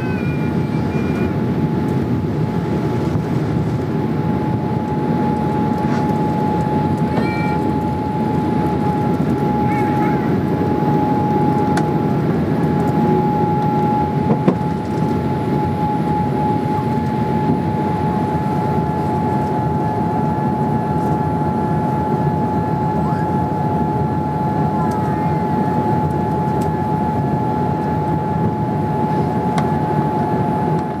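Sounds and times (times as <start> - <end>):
engine and airflow rush: 0.0 - 31.0
steady high tone: 4.0 - 30.8.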